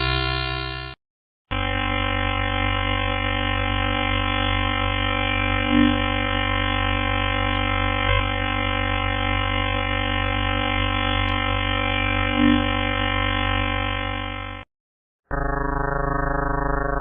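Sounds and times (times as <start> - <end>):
low hum: 0.0 - 14.6
electronic drone of held tones: 0.0 - 14.7, 15.3 - 17.0.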